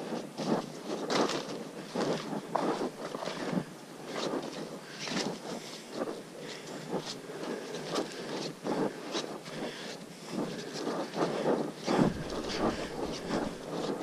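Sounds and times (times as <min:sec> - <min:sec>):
footsteps on muddy dirt trail: 0:00.0 - 0:14.0
steady hiss: 0:00.0 - 0:14.0.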